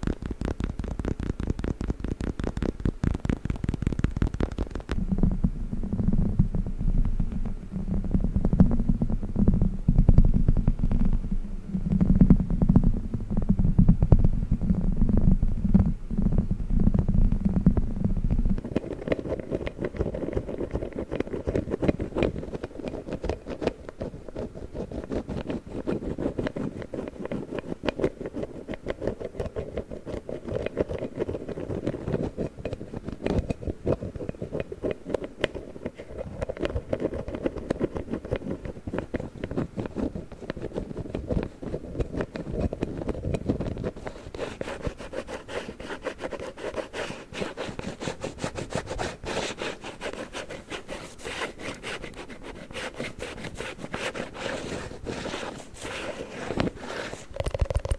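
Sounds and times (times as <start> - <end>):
plastic package rubbing and clicking: 0.0 - 57.9.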